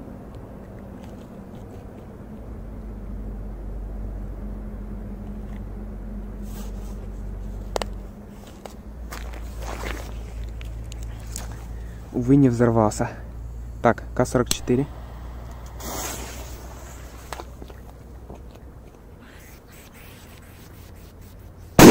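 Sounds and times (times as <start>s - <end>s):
low outdoor rumble: 0.0s - 21.9s.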